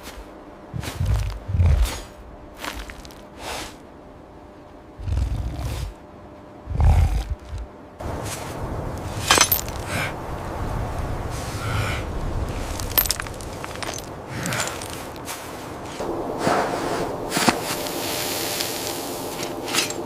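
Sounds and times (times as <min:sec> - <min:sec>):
low rumbling: 0:00.6 - 0:02.6, 0:05.0 - 0:20.0.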